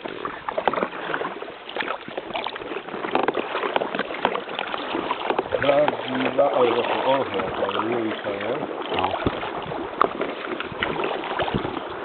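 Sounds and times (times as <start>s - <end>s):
paddles splashing water: 0.0s - 12.0s.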